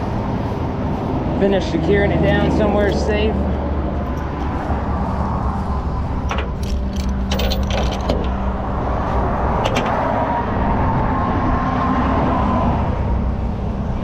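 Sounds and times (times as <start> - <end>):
road traffic: 0.0 - 14.0
vehicle engine running: 0.0 - 14.0.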